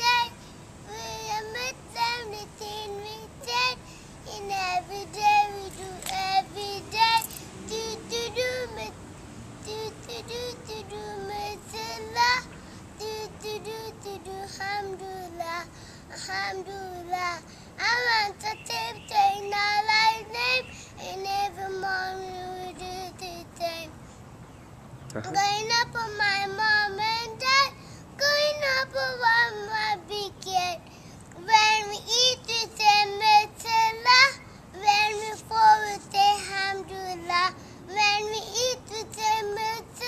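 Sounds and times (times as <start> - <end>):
boy singing unaccompanied: 0.0 - 24.0, 25.0 - 40.0.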